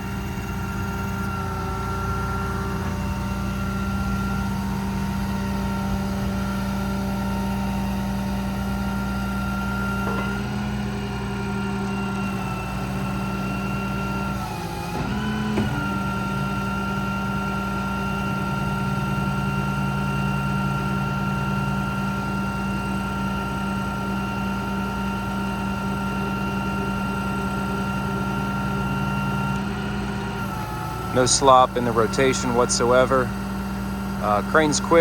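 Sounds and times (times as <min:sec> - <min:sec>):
diesel engine hum: 0:00.0 - 0:35.0
hydraulic pump whine: 0:00.0 - 0:35.0.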